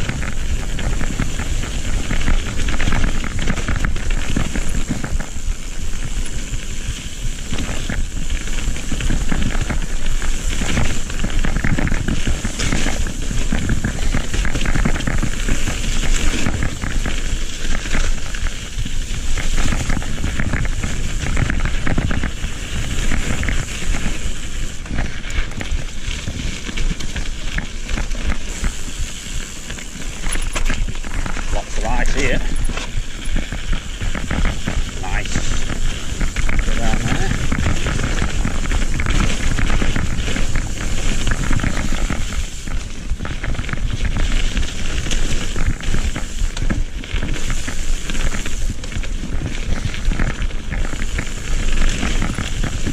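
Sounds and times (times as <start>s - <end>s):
bike rattling: 0.0s - 52.9s
bike tyres crunching on gravel: 0.0s - 52.9s
wind noise on microphone: 0.0s - 52.9s.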